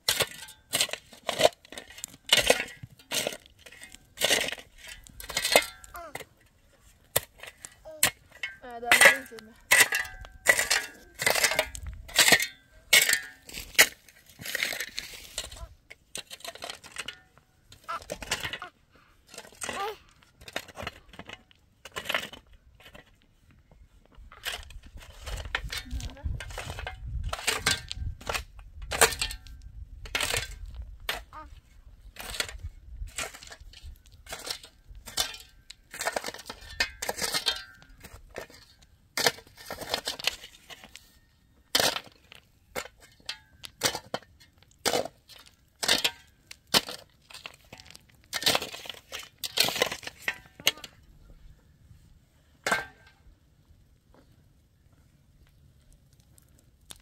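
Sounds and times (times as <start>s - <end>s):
shovel scraping stony soil: 0.0s - 23.2s, 24.2s - 51.1s
clatter of earth and stones: 0.0s - 57.0s.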